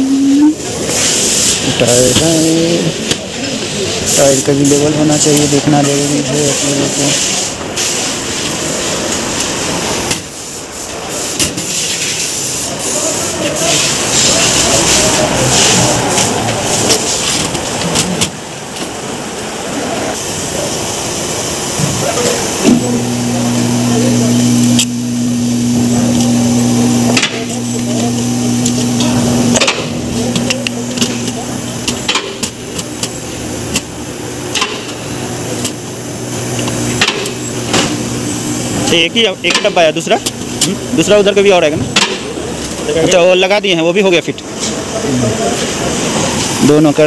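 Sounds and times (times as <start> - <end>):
steady machine hum: 0.0 - 10.0, 18.5 - 47.0
workshop noise: 0.0 - 47.0.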